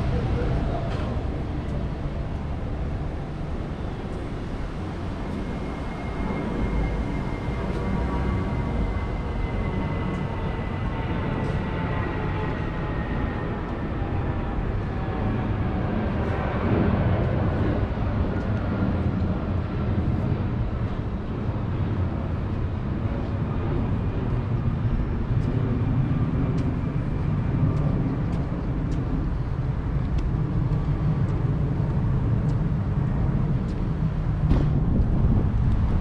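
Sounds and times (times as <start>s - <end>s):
traffic rumble: 0.0s - 36.0s.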